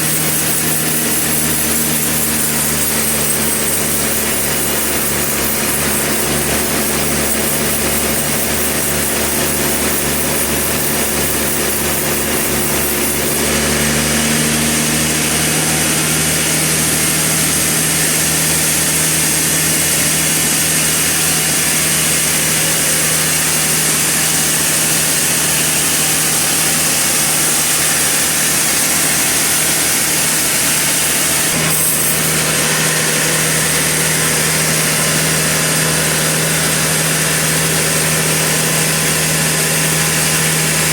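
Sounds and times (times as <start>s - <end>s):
saw cutting log hissing: 0.0s - 40.9s
sawmill saw drone: 0.0s - 40.9s.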